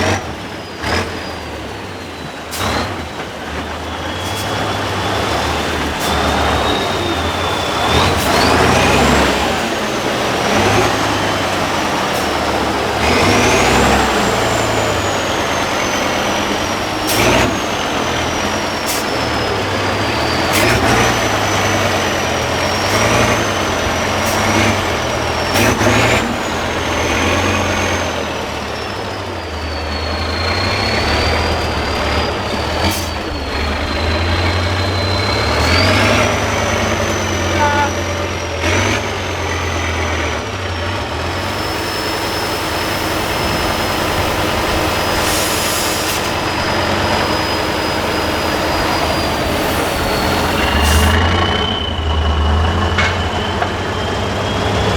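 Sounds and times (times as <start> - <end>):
high engine whistle: 0.0 - 54.9
truck diesel engine working hard: 0.0 - 54.9.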